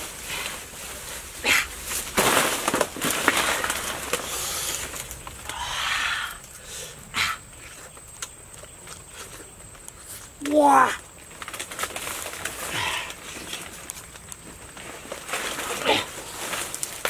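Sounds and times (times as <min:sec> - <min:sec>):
leaves and stalks rustling: 0:00.0 - 0:17.0.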